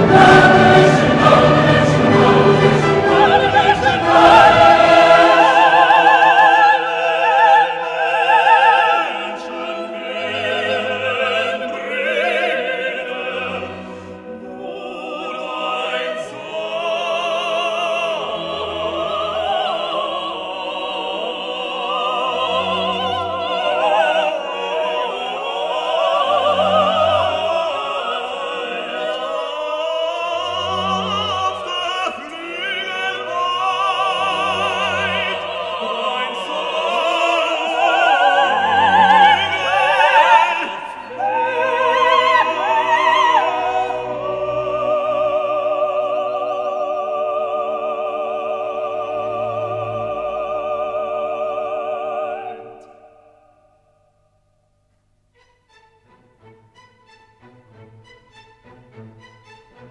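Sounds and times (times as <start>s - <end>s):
operatic voice singing: 0.0s - 53.2s
orchestral music: 0.0s - 53.5s, 55.2s - 59.9s.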